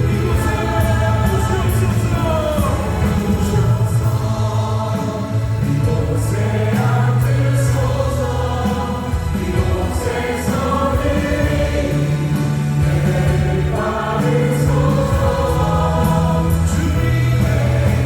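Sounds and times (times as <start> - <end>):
drums: 0.0 - 18.0
group singing worship song: 0.0 - 18.0
keyboards: 0.0 - 18.0
sustained bass notes: 0.0 - 18.0.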